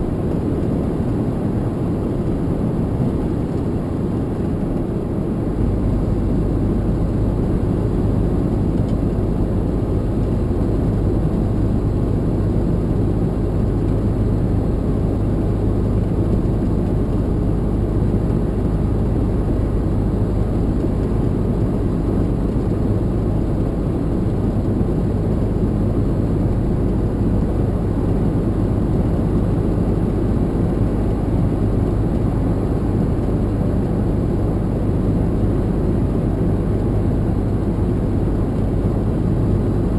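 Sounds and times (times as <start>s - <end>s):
lorry engine drone: 0.0s - 39.9s.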